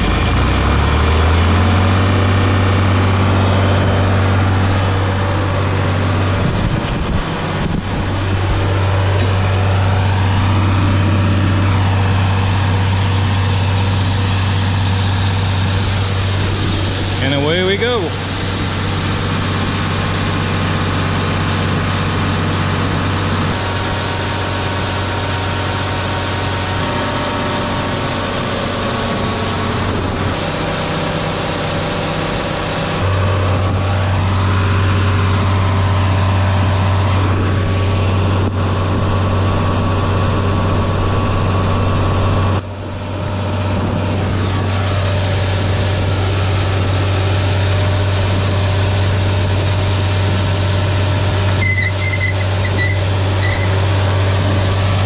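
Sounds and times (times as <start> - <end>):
tractor engine humming: 0.0 - 55.0.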